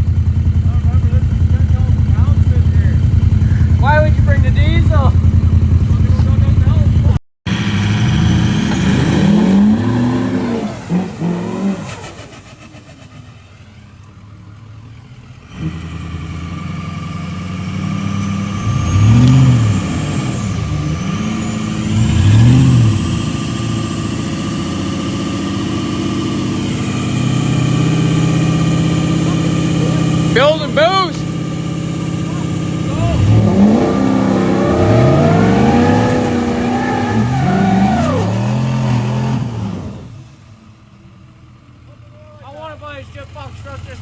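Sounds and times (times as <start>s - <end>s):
engines revving under load: 0.0s - 41.8s.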